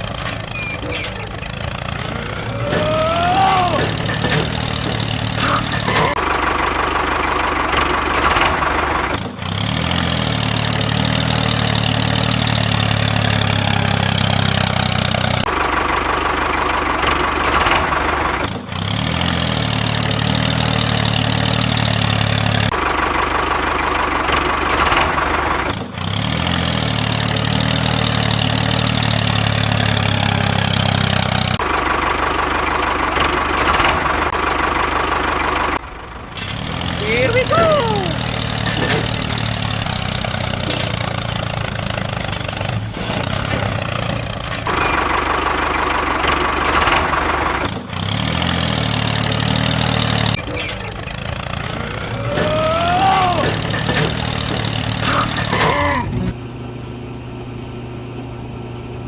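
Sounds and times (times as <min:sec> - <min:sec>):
tractor engine idling with knocking: 0:00.0 - 0:59.0.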